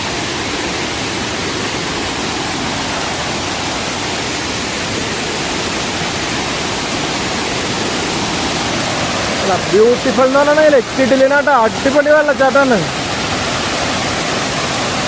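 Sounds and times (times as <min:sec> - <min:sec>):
loud waterfall rushing: 0:00.0 - 0:15.0.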